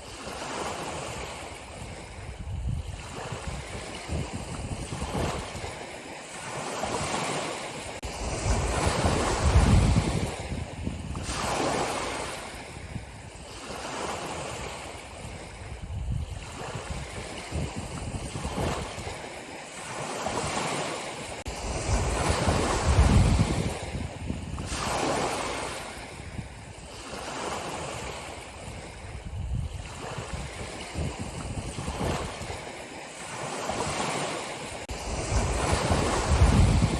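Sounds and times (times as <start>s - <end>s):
ocean waves washing in: 0.0s - 36.9s.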